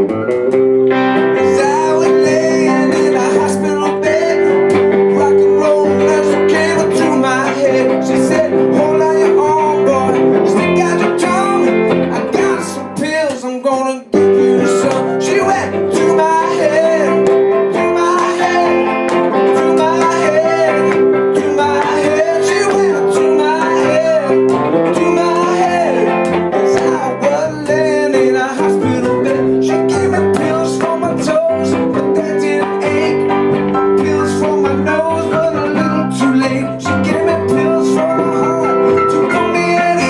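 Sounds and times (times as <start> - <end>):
live rock band playing: 0.0 - 13.4, 14.2 - 40.0
electric guitar: 0.0 - 40.0
man singing: 1.2 - 40.0.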